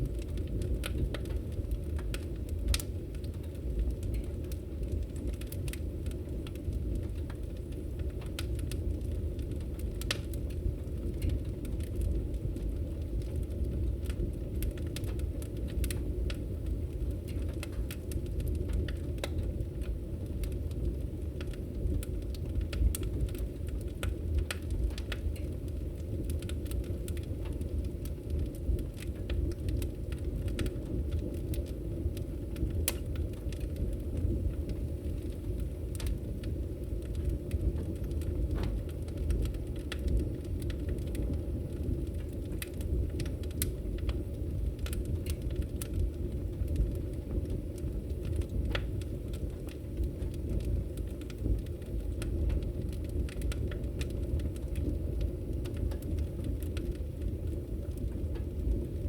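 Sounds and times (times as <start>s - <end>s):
fire rumbling: 0.0s - 59.0s
wood crackling and popping: 0.0s - 59.0s.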